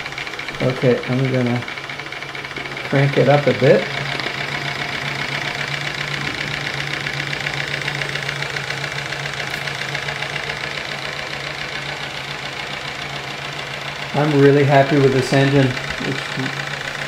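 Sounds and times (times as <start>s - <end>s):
steam engine running fast: 0.0s - 17.0s.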